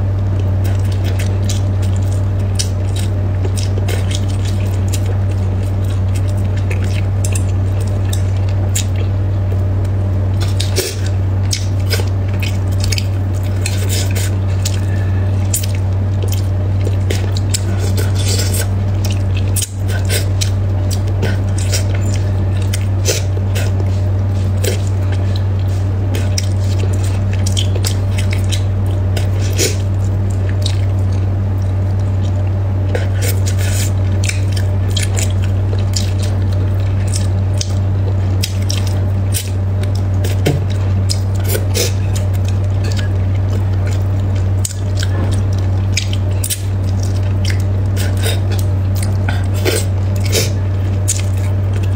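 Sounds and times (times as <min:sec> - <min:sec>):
steady low hum: 0:00.0 - 0:51.9
wet mouth eating sounds: 0:00.3 - 0:51.9.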